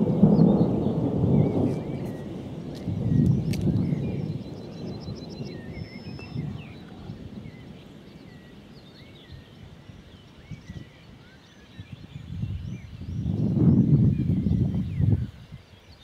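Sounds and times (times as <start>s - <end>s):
low gusty rumble: 0.0s - 15.8s
small birds chirping: 0.0s - 16.0s.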